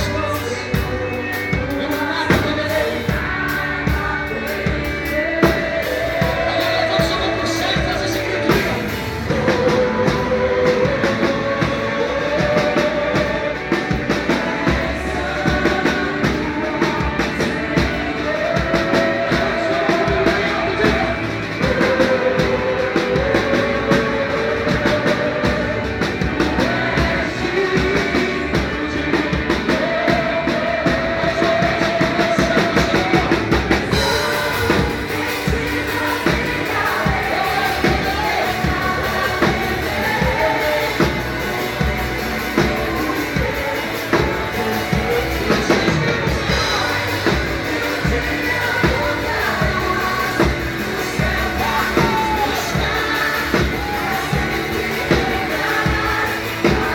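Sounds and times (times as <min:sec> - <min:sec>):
drum kit beat: 0:00.0 - 0:56.9
person singing: 0:00.0 - 0:56.9
worship band music: 0:00.0 - 0:56.9.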